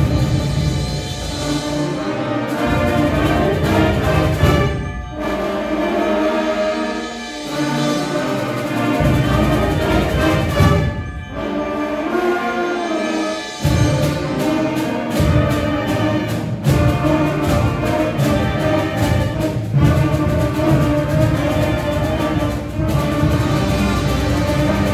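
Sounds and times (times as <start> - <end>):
concert band playing: 0.0 - 24.9
drums: 0.0 - 24.9.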